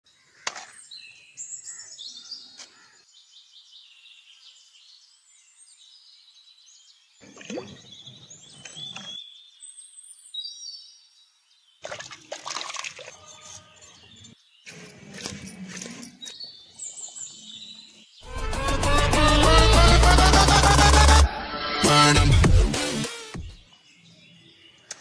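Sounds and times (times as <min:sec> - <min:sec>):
light outdoor background: 0:00.0 - 0:25.0
birds chirping and trilling: 0:00.1 - 0:12.3, 0:12.9 - 0:20.3, 0:23.6 - 0:25.0.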